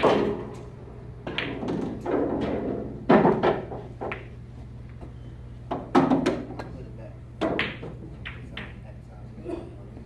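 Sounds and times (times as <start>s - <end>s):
pool balls and cue knocking: 0.0s - 6.8s, 7.4s - 8.8s.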